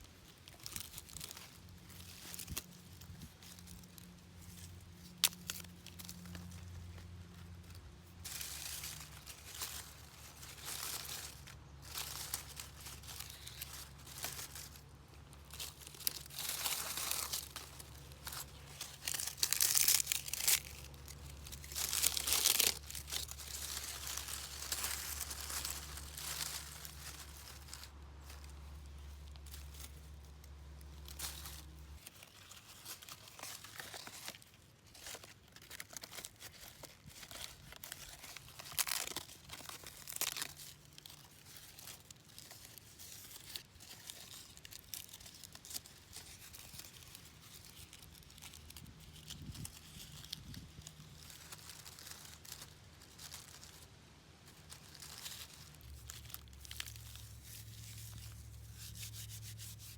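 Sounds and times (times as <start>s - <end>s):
crinkly material crinkling and tearing: 0.0s - 59.9s.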